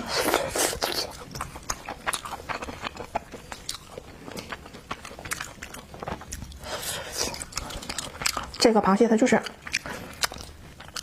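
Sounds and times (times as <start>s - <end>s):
wet chewing and mouth smacks: 0.0s - 11.0s.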